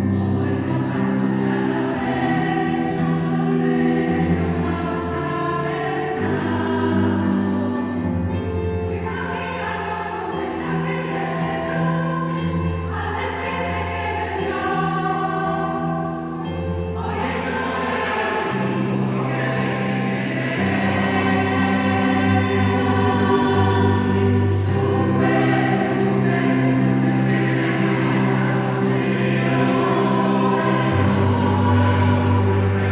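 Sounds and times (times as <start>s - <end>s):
choir singing long chords: 0.0s - 32.9s.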